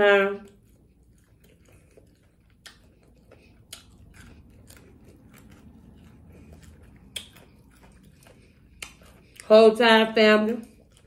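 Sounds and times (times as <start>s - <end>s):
chewing crispy food: 0.0s - 11.0s.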